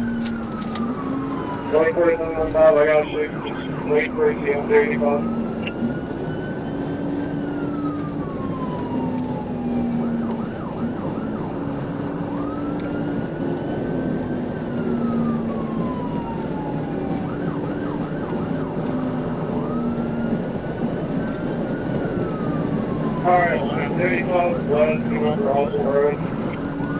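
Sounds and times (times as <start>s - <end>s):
police siren wailing and yelping: 0.0s - 26.9s
road and engine noise: 0.0s - 26.9s.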